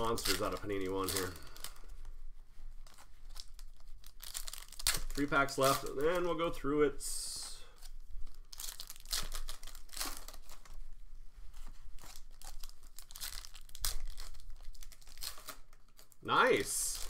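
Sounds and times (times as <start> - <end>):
foil wrapper crinkling and tearing: 0.0 - 11.0, 11.6 - 17.0.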